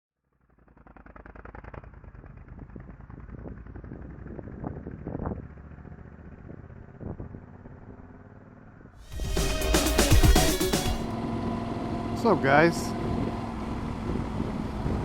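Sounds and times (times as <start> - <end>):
motorcycle engine at low revs: 0.2 - 9.0, 11.1 - 15.0.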